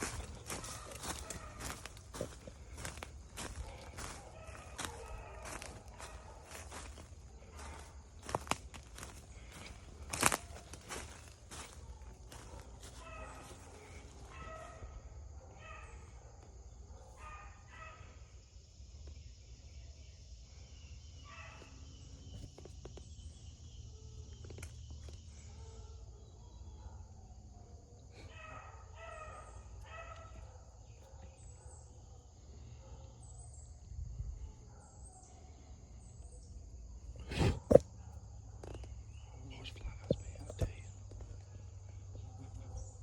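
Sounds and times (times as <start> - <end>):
distant dog barking: 0.0 - 18.4, 21.2 - 22.2, 25.2 - 36.5, 37.2 - 43.0.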